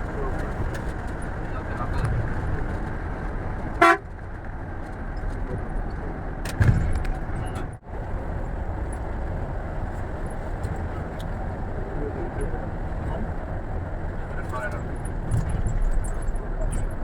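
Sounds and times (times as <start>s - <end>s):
coach engine and road rumble: 0.0s - 17.0s.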